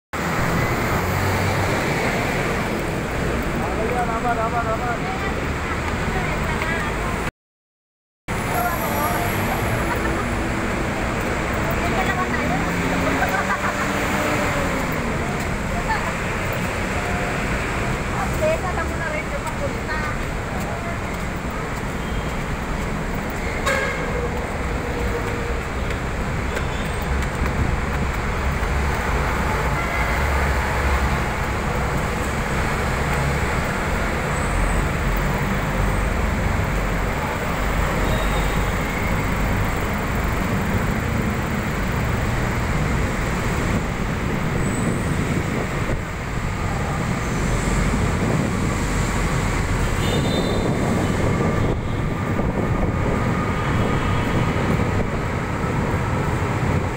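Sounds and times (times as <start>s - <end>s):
heavy road traffic rumble: 0.1s - 7.3s, 8.3s - 56.9s.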